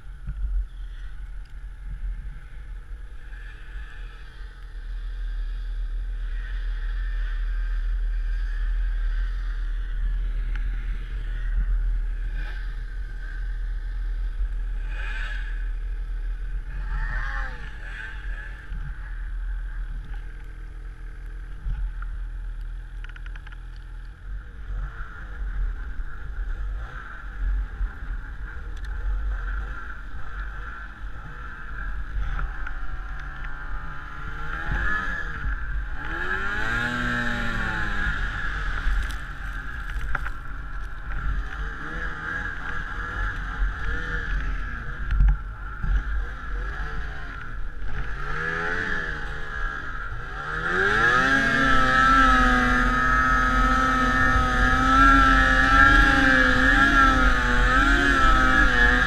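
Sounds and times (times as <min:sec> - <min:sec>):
snowmobile engine running: 0:00.0 - 0:23.6, 0:24.4 - 0:59.0
wind rumble on microphone: 0:00.0 - 0:59.0.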